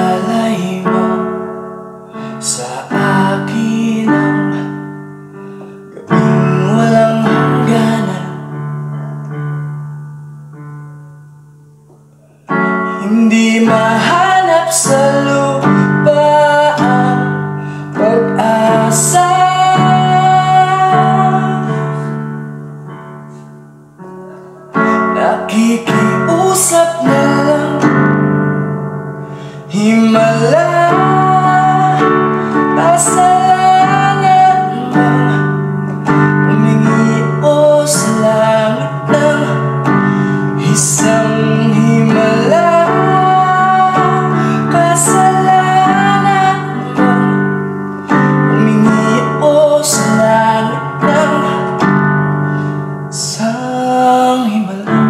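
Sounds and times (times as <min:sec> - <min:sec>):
keyboard chords: 0:00.0 - 0:55.0
person singing a ballad: 0:00.0 - 0:55.0.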